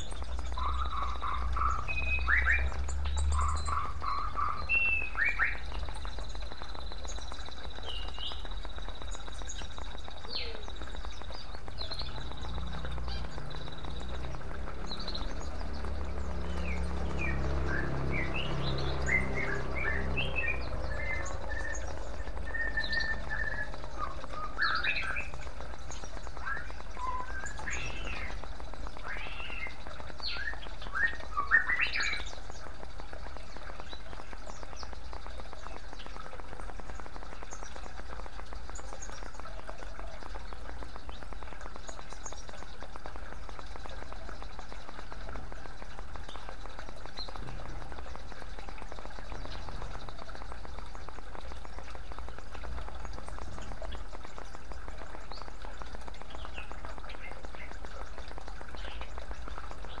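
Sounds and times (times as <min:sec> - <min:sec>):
small birds chirping: 0:00.0 - 1:00.0
water trickling into basin: 0:00.0 - 1:00.0.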